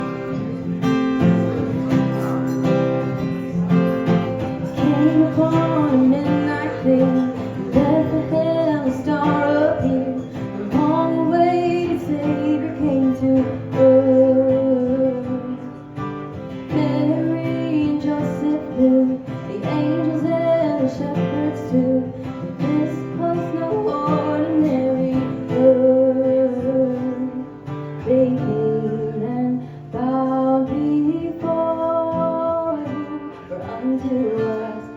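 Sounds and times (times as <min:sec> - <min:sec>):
acoustic guitar strumming chords: 0:00.0 - 0:34.9.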